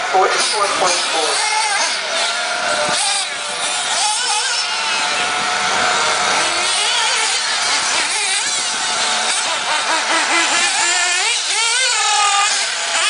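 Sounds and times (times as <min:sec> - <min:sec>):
high-pitched toy car motor: 0:00.3 - 0:13.0.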